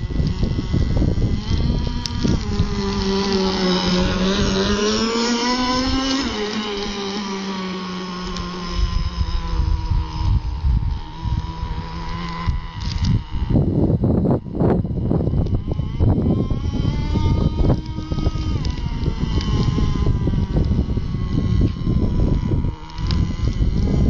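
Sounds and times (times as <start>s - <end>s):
model boat engine whine: 0.0s - 24.0s
wind noise on microphone: 0.0s - 24.0s.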